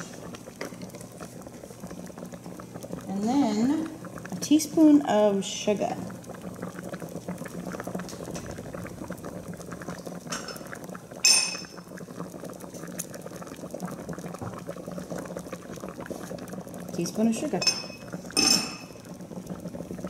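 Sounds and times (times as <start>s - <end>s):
broth bubbling in a pot: 0.0s - 20.0s.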